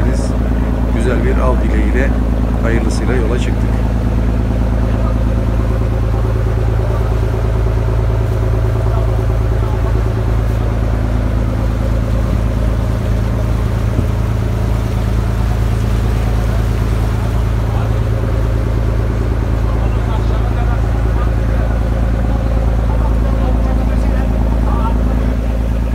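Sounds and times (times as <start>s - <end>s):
boat engine droning: 0.0s - 25.9s.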